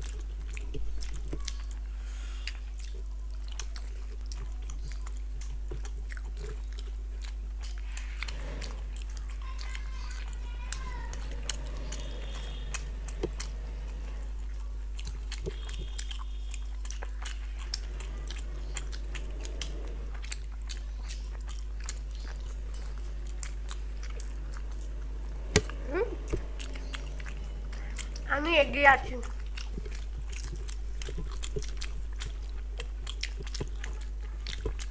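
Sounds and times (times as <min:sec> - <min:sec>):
person chewing food: 0:00.0 - 0:34.9
steady low hum: 0:00.0 - 0:34.9.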